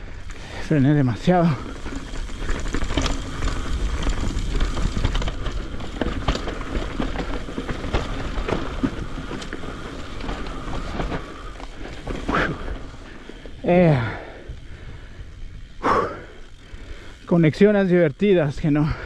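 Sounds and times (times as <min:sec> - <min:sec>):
bike knocking and rattling: 0:00.0 - 0:19.0.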